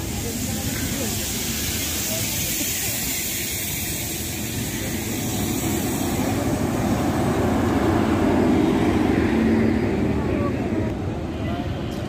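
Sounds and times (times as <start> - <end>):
train coaches rumbling past: 0.0 - 12.0.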